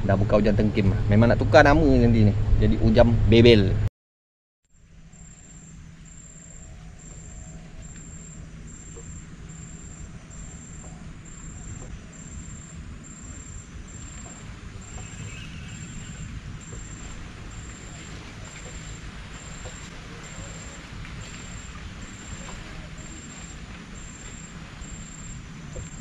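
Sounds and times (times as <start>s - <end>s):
low steady hum: 0.0s - 3.9s, 4.8s - 26.0s
outdoor background noise: 4.7s - 26.0s
insect chirping: 4.8s - 26.0s.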